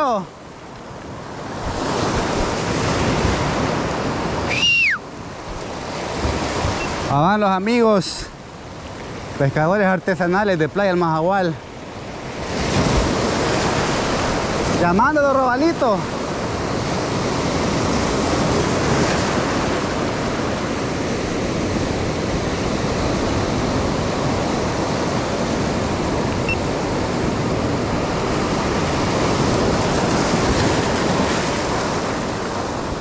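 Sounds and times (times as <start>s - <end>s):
surf washing over rocks: 0.0s - 33.0s.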